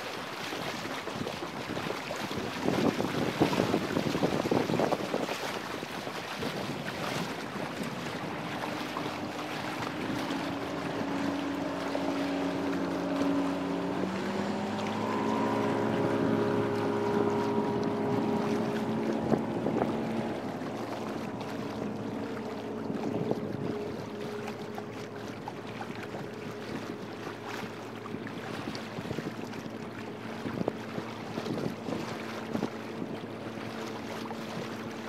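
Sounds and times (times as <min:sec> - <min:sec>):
steady motor hum: 0:00.0 - 0:35.0
water rushing along hull: 0:00.0 - 0:35.0
wind buffeting microphone: 0:00.3 - 0:35.0.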